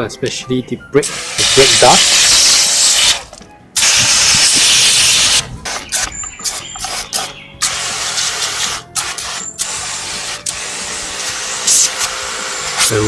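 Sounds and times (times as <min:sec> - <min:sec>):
pressure washer water jet hissing: 0:01.0 - 0:13.0.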